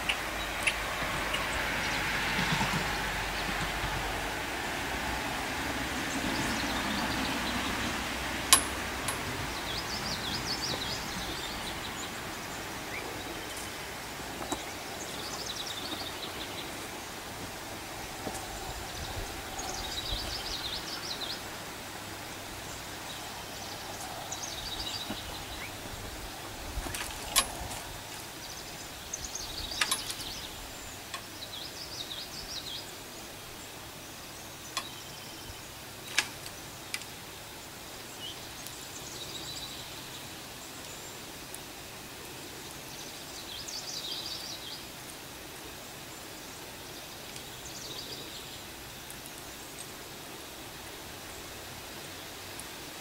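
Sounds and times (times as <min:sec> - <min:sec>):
outdoor background hiss: 0:00.0 - 0:53.0
songbirds chirping: 0:00.0 - 0:53.0.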